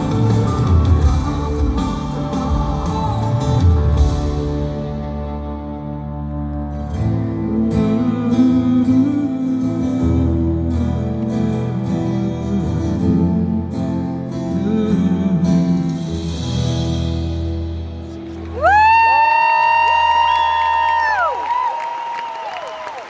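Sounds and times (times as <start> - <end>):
strummed acoustic guitar: 0.0 - 18.5
live pop-rock band music: 0.0 - 19.5.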